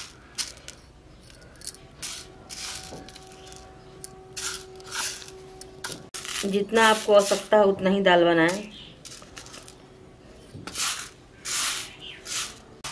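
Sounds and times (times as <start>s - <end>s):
dry lentils rustling on steel plate: 0.0s - 7.8s, 8.6s - 9.8s, 10.6s - 12.9s.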